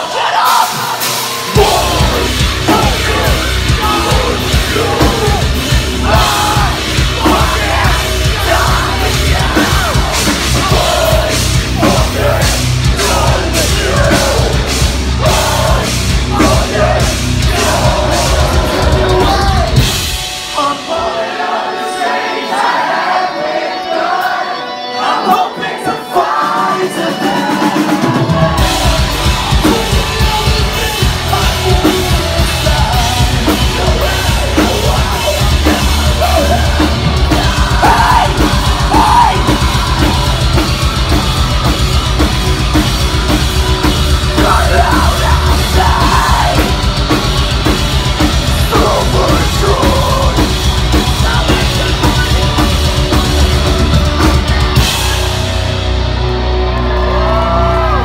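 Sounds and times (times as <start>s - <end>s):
sung and yelled vocals: 0.0s - 55.8s
metal band playing: 0.0s - 58.0s.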